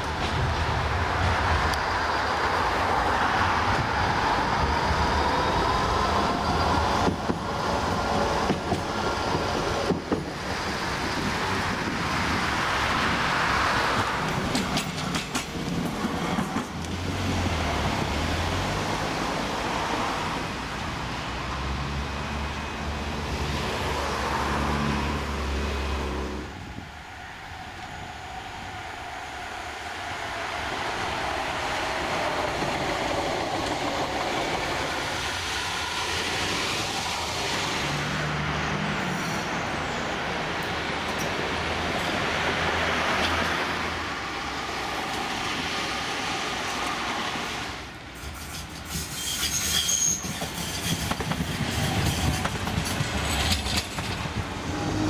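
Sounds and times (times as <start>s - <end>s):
tram electric whine: 0.0s - 49.6s
wheel and rail noise: 0.0s - 55.0s.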